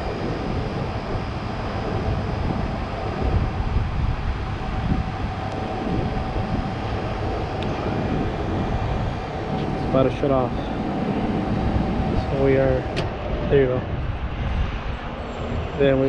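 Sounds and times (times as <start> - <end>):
condensing unit running: 0.0 - 16.0
faint steady hum: 0.0 - 16.0.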